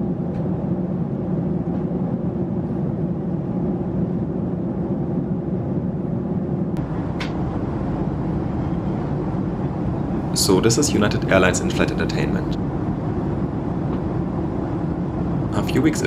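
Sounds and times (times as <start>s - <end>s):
airplane cabin engine rush: 0.0s - 16.0s.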